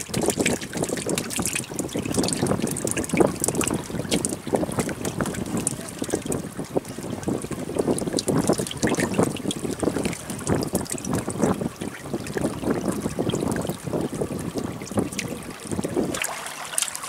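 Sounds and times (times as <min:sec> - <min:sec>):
fish splashing in water: 0:00.0 - 0:17.0.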